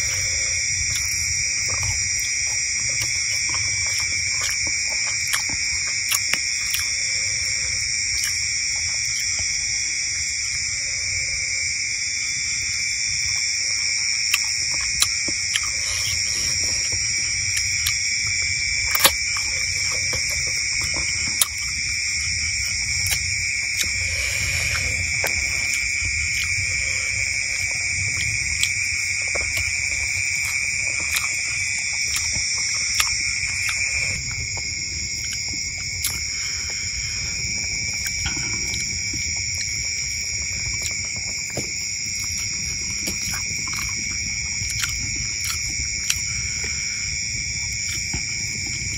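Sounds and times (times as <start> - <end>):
night insects trilling: 0.0 - 48.9.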